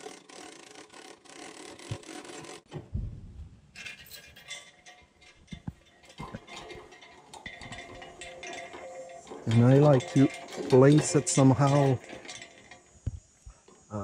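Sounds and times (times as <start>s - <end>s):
metal parts rubbing and clicking: 0.0s - 2.7s, 3.7s - 13.9s.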